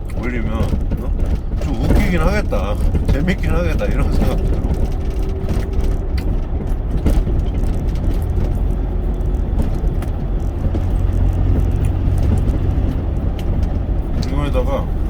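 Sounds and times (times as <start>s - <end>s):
truck engine and road rumble: 0.0s - 15.0s
faint clicks: 0.6s - 14.6s.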